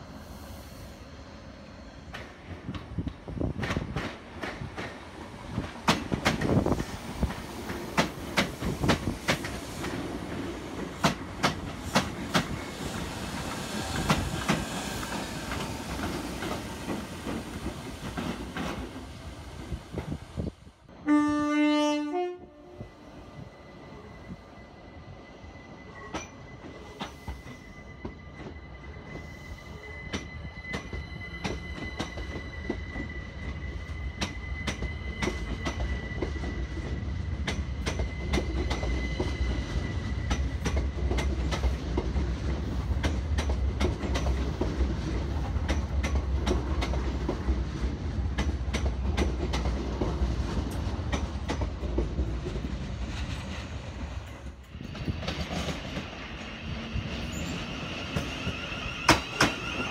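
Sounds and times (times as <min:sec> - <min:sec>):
low train rumble: 0:00.0 - 0:59.9
train passing with high whine: 0:00.0 - 0:59.9.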